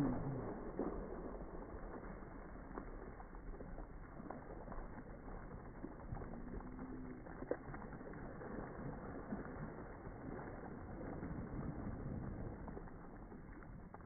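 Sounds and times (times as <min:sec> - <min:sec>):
water spraying on plastic tarp: 0:00.0 - 0:14.0.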